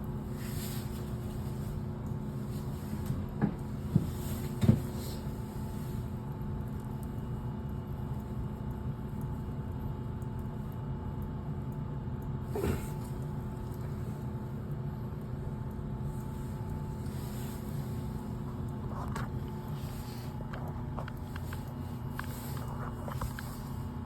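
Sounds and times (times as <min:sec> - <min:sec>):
furnace humming: 0:00.0 - 0:24.0.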